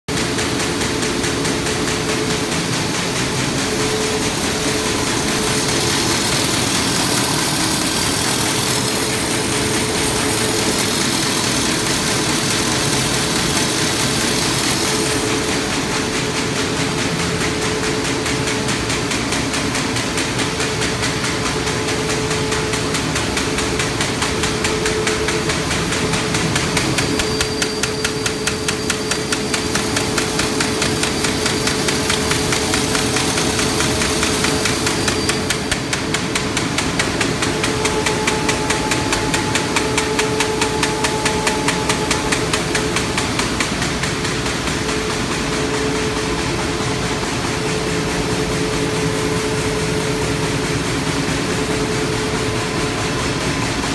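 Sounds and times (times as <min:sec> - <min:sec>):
pulsing beat: 0:00.1 - 0:51.5
fast rhythmic clatter: 0:00.1 - 0:53.9
printing press machine noise: 0:00.1 - 0:53.9.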